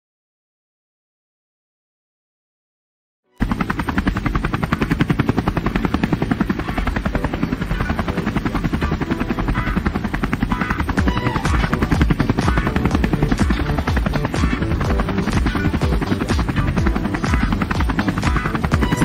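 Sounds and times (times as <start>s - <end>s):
helicopter rotor beating: 3.4s - 19.0s
turbine whine: 3.4s - 19.0s.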